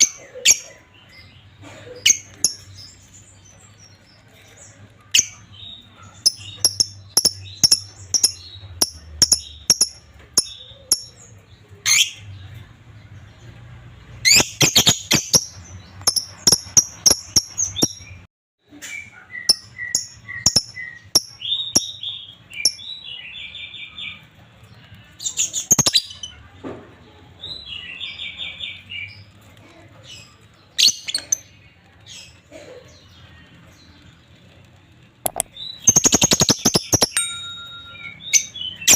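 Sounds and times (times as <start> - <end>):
lovebirds chirping: 0.0 - 26.6, 27.4 - 38.9.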